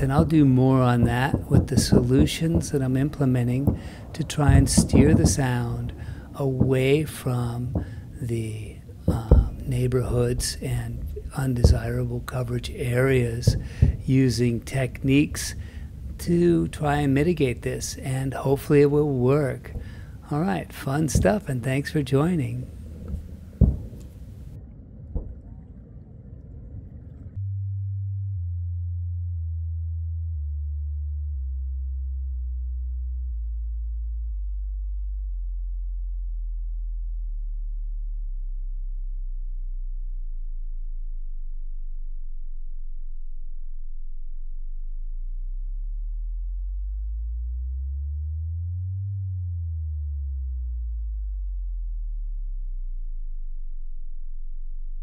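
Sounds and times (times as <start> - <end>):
deep pure tone stepping down: 0.0 - 55.0
low outdoor rumble: 0.0 - 55.0.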